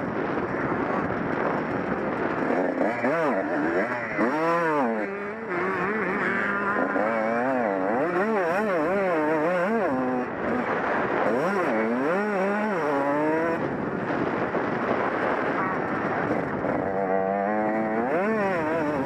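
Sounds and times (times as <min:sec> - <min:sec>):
two-stroke motocross engine revving: 0:00.0 - 0:19.0.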